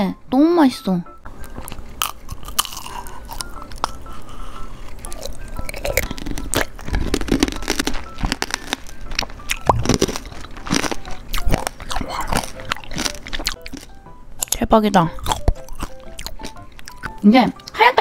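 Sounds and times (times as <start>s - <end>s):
crisp crunches of sugar shell chewing: 1.4s - 14.6s, 15.2s - 17.8s.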